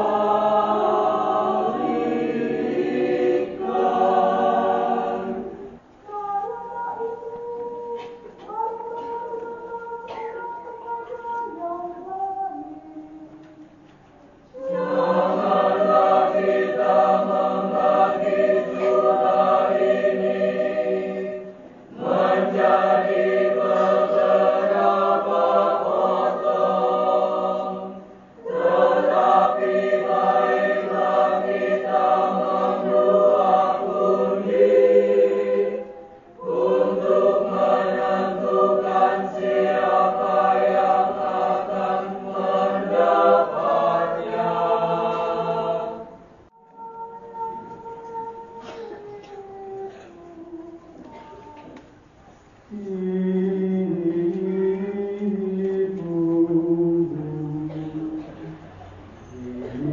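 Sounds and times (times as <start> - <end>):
church choir singing: 0.0 - 12.8, 14.5 - 48.8, 52.7 - 59.9.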